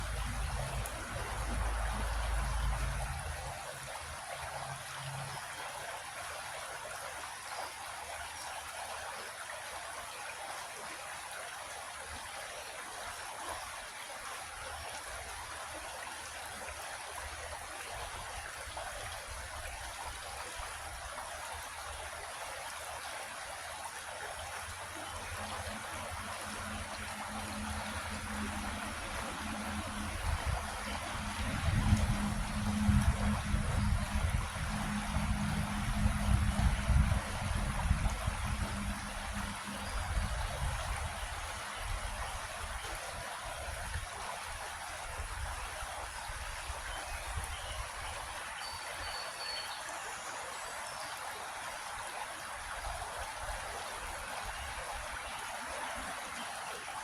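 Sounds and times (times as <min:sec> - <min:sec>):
creek water flowing over stones: 0:00.0 - 0:57.0.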